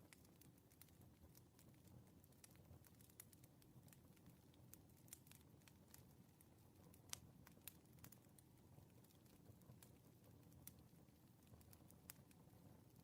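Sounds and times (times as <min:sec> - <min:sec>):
low steady hiss: 0:00.0 - 0:13.0
wood fire crackling: 0:00.0 - 0:13.0.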